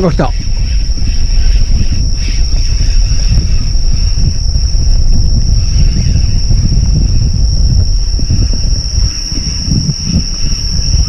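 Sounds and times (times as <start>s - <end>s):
low rumble on microphone: 0.0s - 11.0s
night insects chirring: 0.0s - 11.0s.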